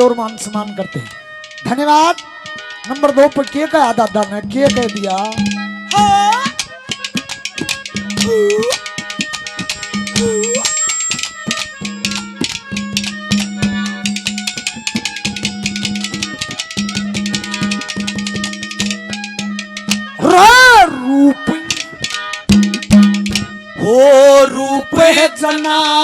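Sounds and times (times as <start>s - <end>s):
folk melody line: 0.0s - 26.0s.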